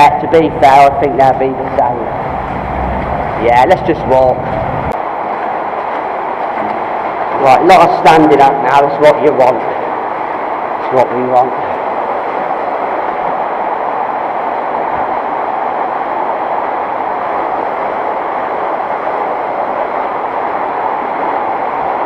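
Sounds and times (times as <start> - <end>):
water rushing in culvert: 0.0 - 22.0.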